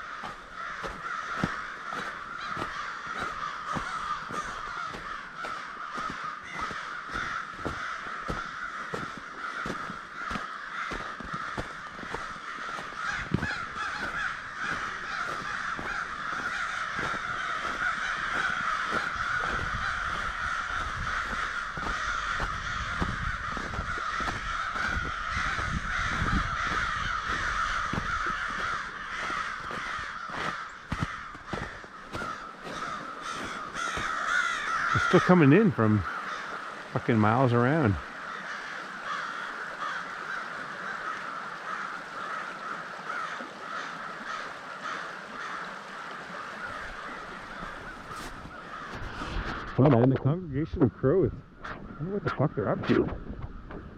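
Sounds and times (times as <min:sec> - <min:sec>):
flock of crows cawing: 0:00.0 - 0:52.8.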